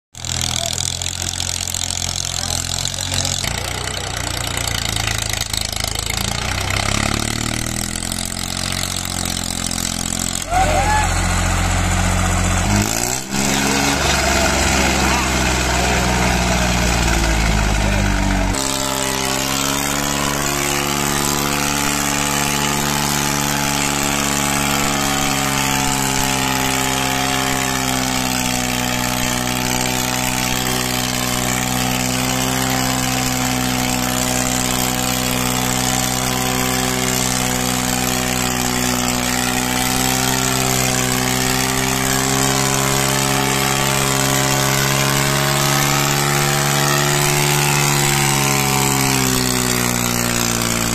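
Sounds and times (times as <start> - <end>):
tractor diesel engine running: 0.1 - 50.9.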